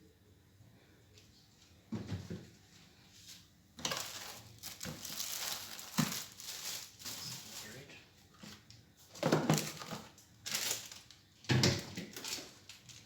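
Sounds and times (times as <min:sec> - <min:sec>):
household items rustling: 0:02.0 - 0:13.0.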